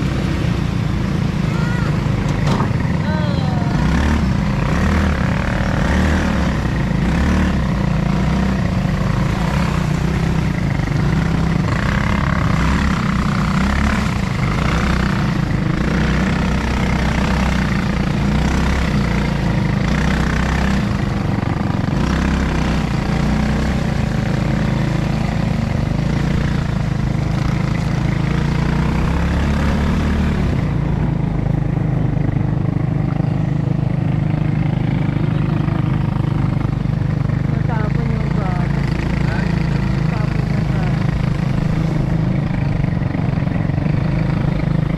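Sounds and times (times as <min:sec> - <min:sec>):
vehicle engine and road noise: 0:00.0 - 0:44.9.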